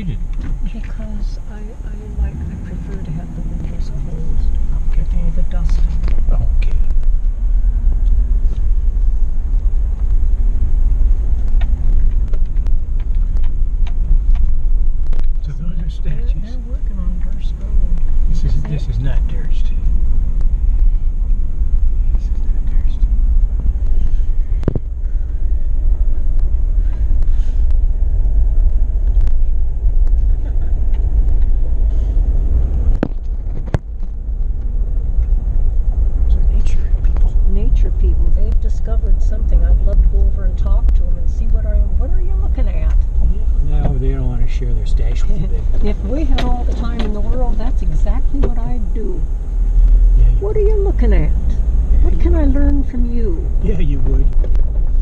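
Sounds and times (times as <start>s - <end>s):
car driving on gravel: 0.0s - 55.0s
tyres and engine rumble: 0.0s - 55.0s.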